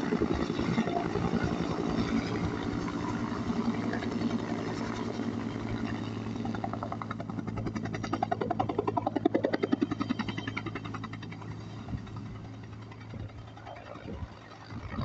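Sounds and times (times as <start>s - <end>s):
helicopter engine hum: 0.0s - 15.0s
helicopter rotor blades beating: 0.0s - 15.0s.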